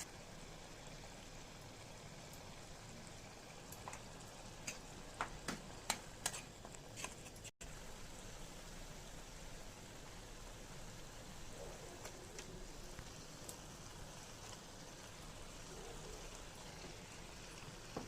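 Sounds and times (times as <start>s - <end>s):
chicken sizzling in oil: 0.0s - 18.0s
oil crackling and popping: 0.0s - 18.0s.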